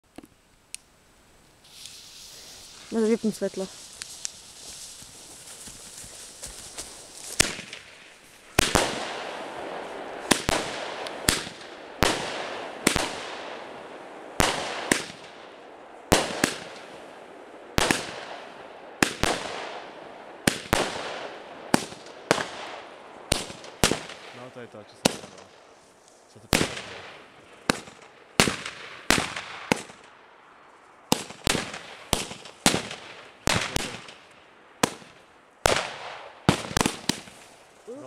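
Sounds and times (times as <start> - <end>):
fireworks bangs: 1.6 - 25.7, 26.4 - 30.1, 31.1 - 38.0.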